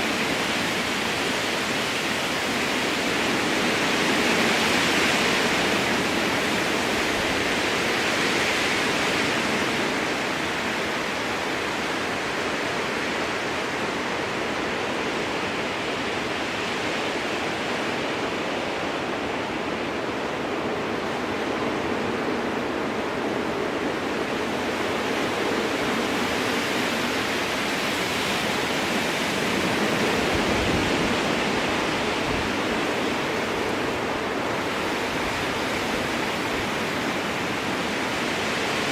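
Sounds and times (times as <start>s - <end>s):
strong wind through trees: 0.0s - 38.9s.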